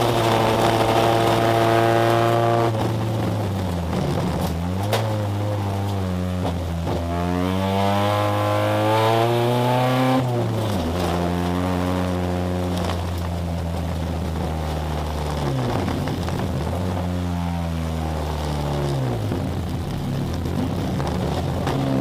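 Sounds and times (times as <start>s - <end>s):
car engine running under load: 0.0s - 22.0s.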